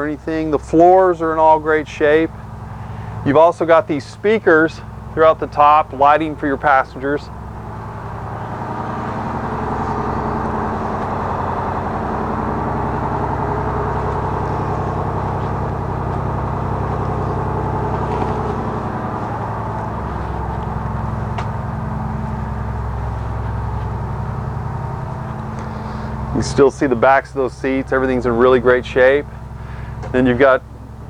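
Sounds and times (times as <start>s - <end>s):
diesel bus engine idling: 0.0s - 31.0s.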